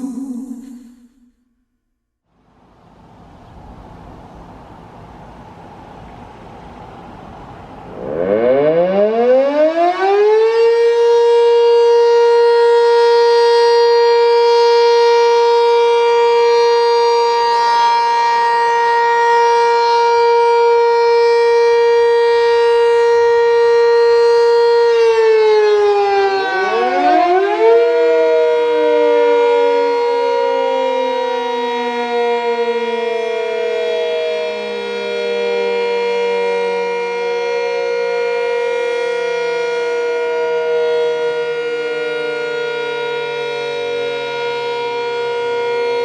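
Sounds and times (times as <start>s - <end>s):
outdoor warning sirens: 0.0s - 1.4s, 2.3s - 46.0s.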